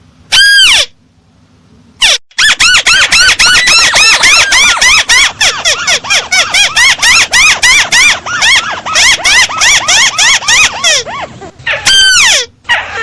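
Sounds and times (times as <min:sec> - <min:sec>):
recorded crake call: 0:02.0 - 0:13.0.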